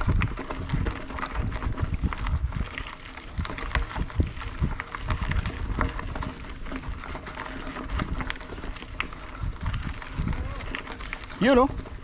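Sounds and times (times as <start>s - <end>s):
bike rattling over stones: 0.0s - 12.0s.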